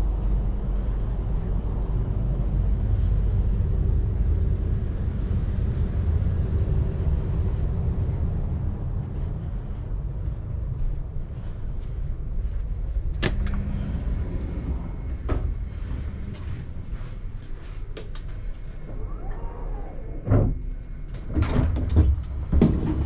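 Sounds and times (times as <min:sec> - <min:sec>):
faint steady hum: 0:00.0 - 0:23.0
train rumbling on rails: 0:00.0 - 0:23.0.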